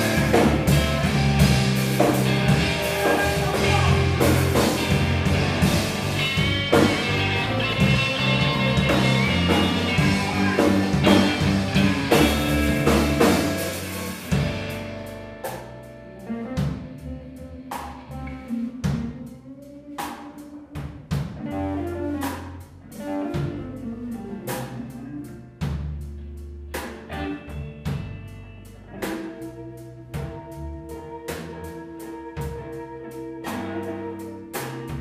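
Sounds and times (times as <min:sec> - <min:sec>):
blues-rock band playing: 0:00.0 - 0:35.0
electric guitar lead: 0:00.0 - 0:35.0.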